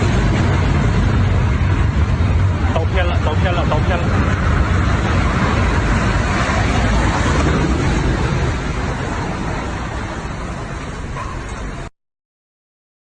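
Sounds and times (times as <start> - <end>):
floodwater rushing: 0.0 - 11.9.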